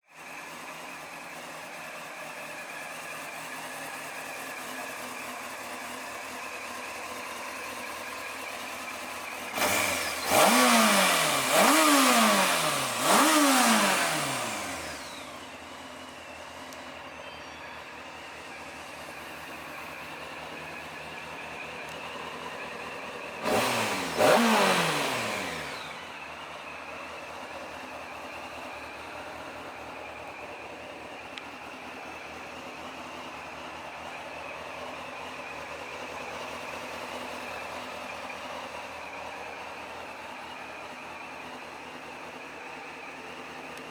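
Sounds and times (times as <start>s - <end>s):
motorcycle engine idling: 0.1s - 43.9s
engine throttle blips: 0.3s - 43.9s.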